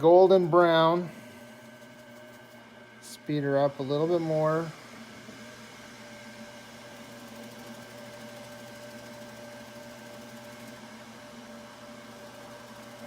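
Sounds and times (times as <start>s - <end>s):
wood lathe motor hum: 0.0s - 13.0s.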